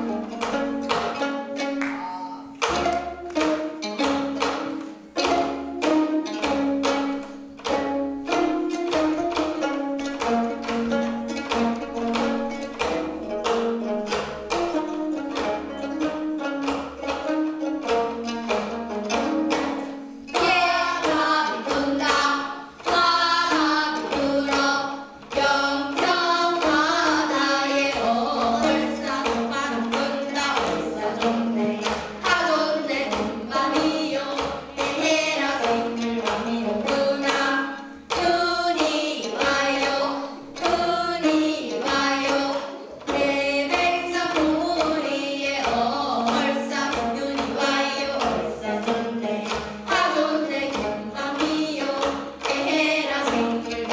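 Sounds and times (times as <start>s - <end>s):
girls singing folk song: 0.0s - 53.9s
plucked zither strings: 0.0s - 53.9s.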